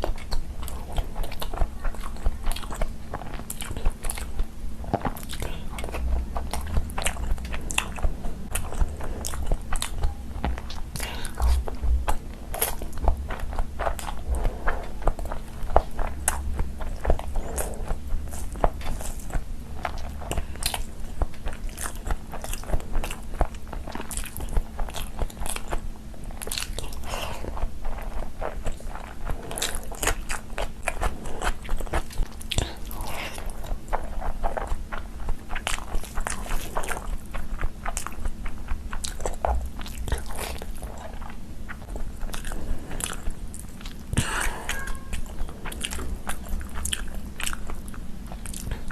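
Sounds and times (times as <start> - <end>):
food crunching: 0.0 - 48.9
person chewing food: 0.0 - 48.9.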